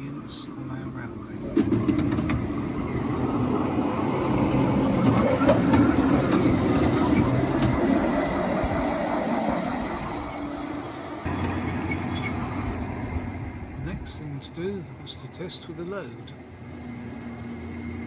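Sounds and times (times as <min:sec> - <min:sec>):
steel wheels rumbling on rails: 0:00.0 - 0:15.8.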